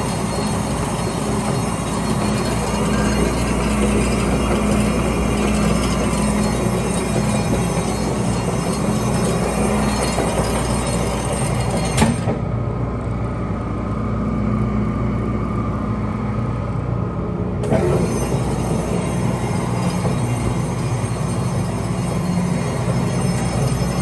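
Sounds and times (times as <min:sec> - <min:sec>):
machine hum and clatter: 0:00.0 - 0:24.0.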